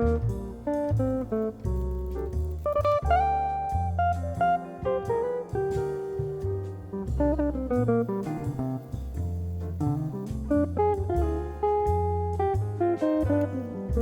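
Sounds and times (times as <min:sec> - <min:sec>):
jazzy plucked guitar and bass: 0:00.0 - 0:14.0.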